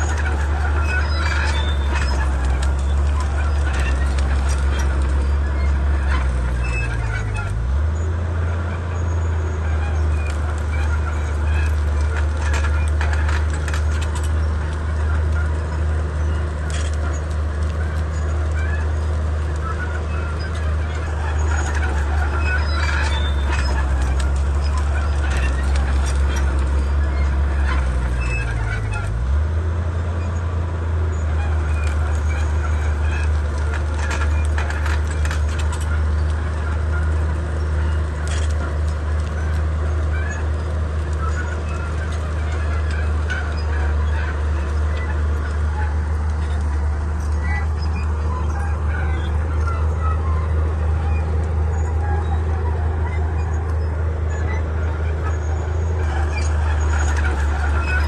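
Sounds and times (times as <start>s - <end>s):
short high squeaks: 0.0s - 29.4s, 30.1s - 58.0s
bulldozer diesel engine droning: 0.0s - 58.0s.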